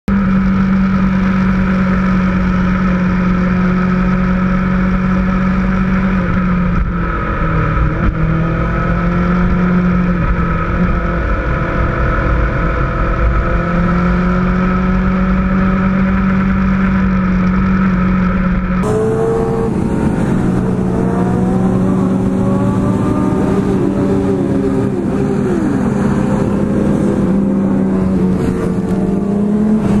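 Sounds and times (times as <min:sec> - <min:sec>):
engines revving: 0:00.1 - 0:30.0
low wind rumble: 0:00.1 - 0:30.0
motorcycle engines droning: 0:00.1 - 0:30.0.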